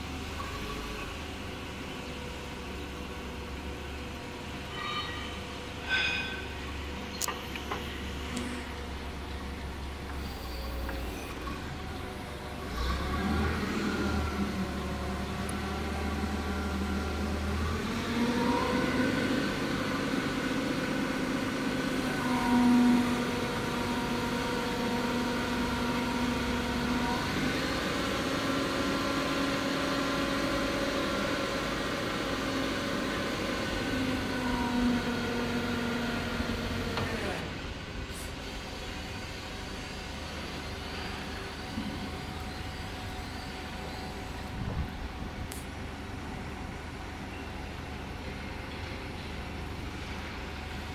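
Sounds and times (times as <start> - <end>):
forklift engine running: 6.4 - 50.9.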